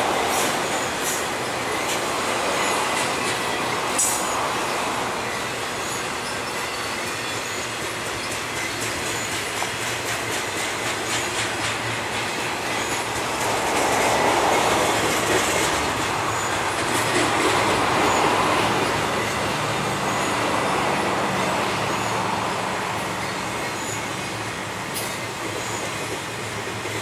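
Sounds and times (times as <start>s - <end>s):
freight train rolling on rails: 0.0s - 27.0s.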